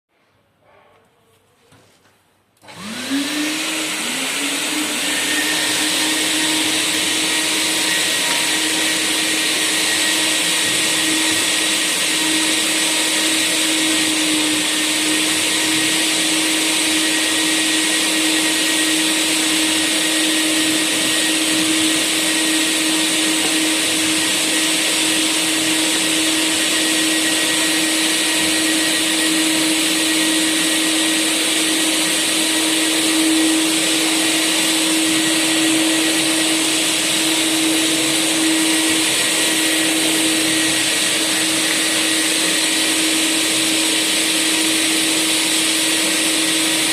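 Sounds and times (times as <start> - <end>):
wet dry vacuum running: 2.6 - 46.9.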